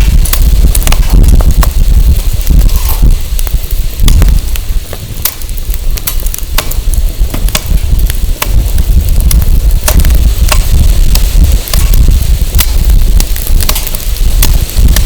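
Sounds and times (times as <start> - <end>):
firewood crackling and popping: 0.0 - 15.0
wind rumbling on microphone: 0.0 - 15.0.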